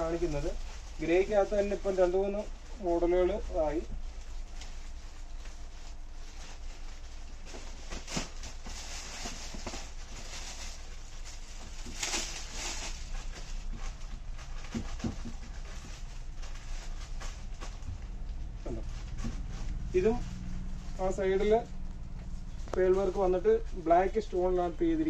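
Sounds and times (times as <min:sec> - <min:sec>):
garments rustling: 0:00.0 - 0:25.0
low steady hum: 0:00.0 - 0:25.0.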